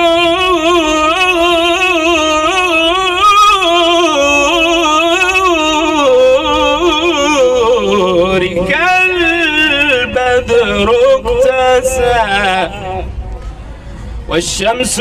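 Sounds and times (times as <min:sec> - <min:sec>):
man chanting devotional melody: 0:00.0 - 0:13.4, 0:14.3 - 0:15.0.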